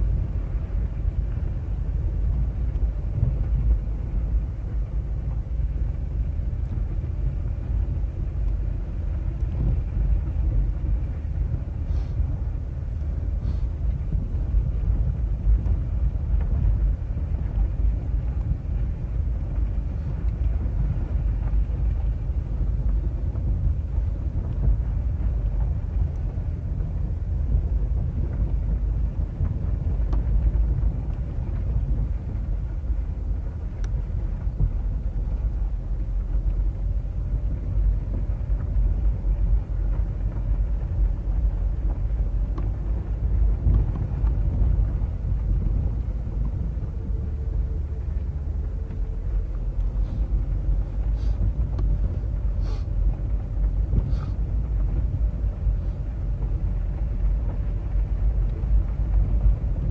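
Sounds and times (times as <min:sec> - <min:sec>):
car tyres and engine rumbling: 0:00.0 - 0:59.9.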